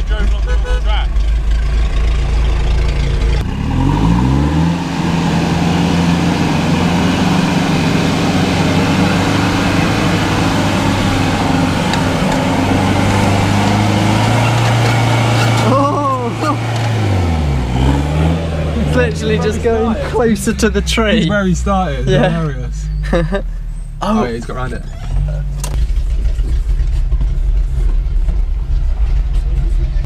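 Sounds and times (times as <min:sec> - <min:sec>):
engine droning and revving: 0:00.0 - 0:30.0.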